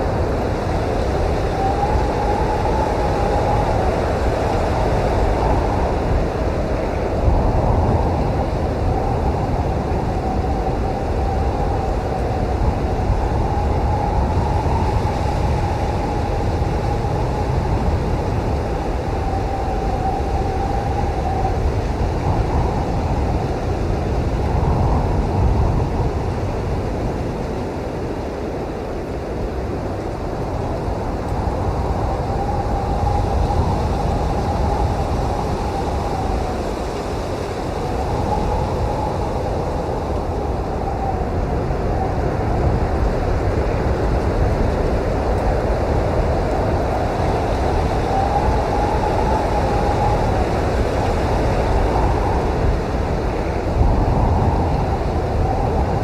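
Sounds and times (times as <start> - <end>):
blizzard wind blowing: 0.0 - 56.0
faint wind howl: 0.0 - 56.0.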